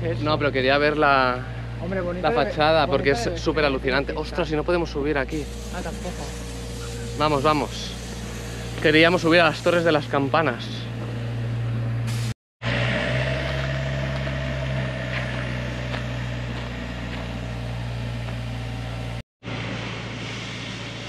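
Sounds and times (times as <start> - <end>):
low rumbling drone: 0.0 - 21.0.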